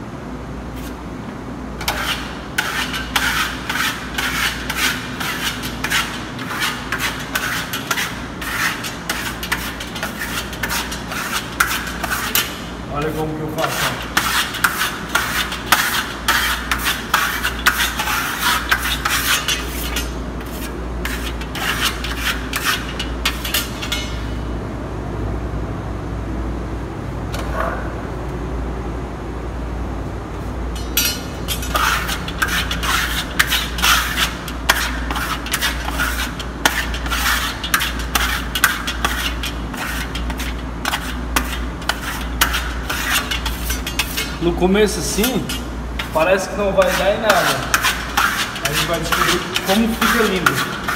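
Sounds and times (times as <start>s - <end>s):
low steady hum: 0.0s - 50.9s
trowel scraping on a wall: 1.8s - 24.4s, 30.8s - 50.9s.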